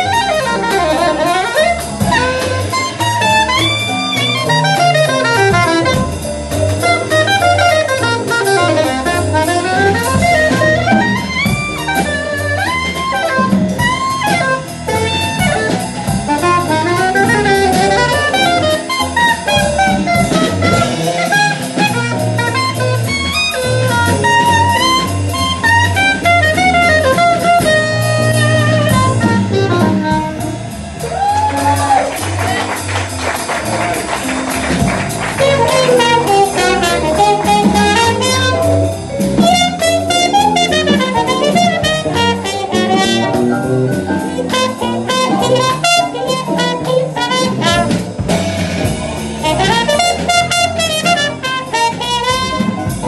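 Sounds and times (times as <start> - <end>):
soprano saxophone melody: 0.0 - 32.9, 33.6 - 53.0
drum kit: 0.0 - 53.0
electric bass guitar: 0.0 - 53.0.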